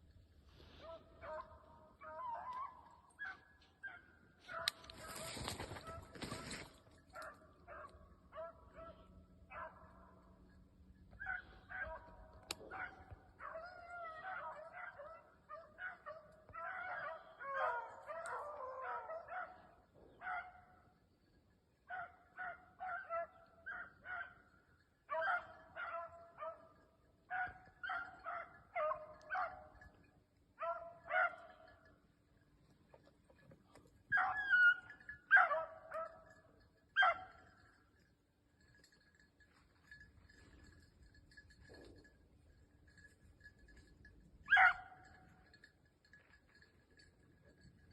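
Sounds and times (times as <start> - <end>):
beagles baying: 0.5 - 47.9.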